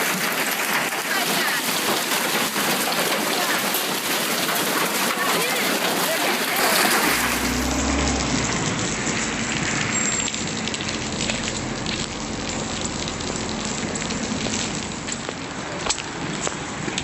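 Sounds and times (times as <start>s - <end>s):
hail pattering on surfaces: 0.0s - 17.0s.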